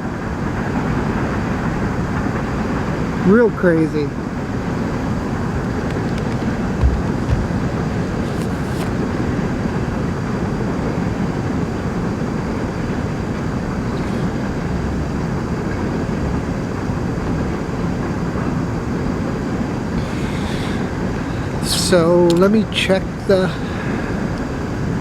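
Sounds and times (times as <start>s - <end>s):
train passing rumble: 0.0s - 25.0s.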